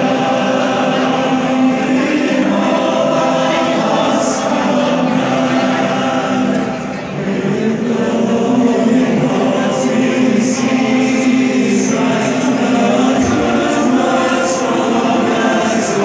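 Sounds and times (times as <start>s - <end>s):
men's chorus singing an anthem: 0.0s - 16.0s.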